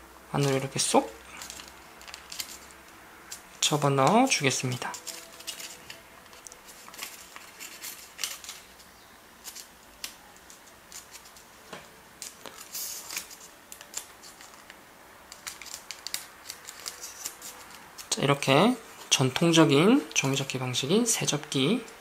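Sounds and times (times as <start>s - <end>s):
paper crinkling: 0.4s - 18.4s.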